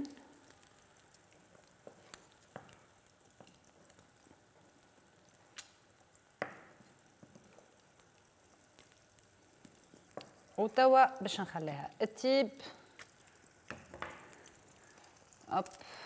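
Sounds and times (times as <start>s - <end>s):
faint sizzle in pan: 0.0s - 16.0s.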